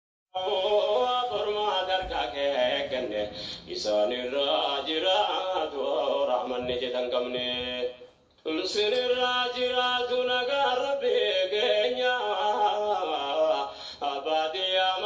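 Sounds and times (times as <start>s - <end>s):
man chanting unaccompanied: 0.4s - 15.0s.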